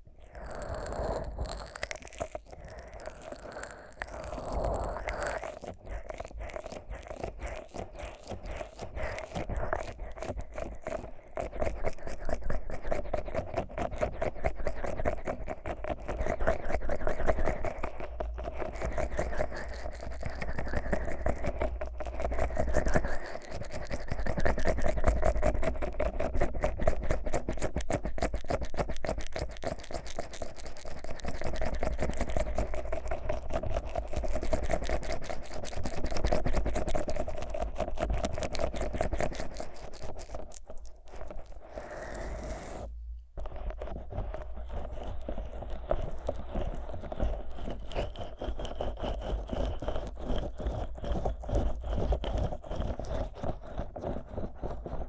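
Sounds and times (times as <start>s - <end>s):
fingers rubbing sticky microphone: 0.5s - 55.0s.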